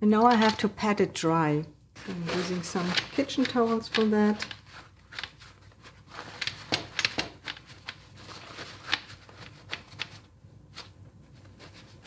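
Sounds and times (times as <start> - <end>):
paper towel rustling and dabbing: 2.0 - 12.0.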